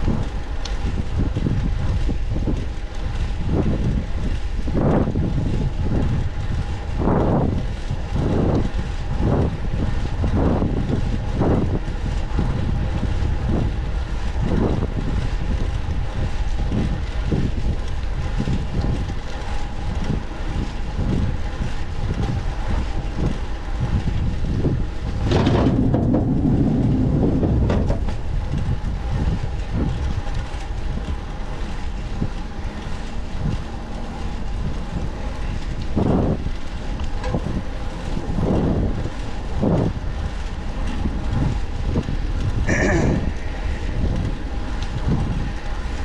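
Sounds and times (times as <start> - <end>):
road and traffic rumble: 0.0 - 46.0
wind buffeting microphone: 0.0 - 46.0.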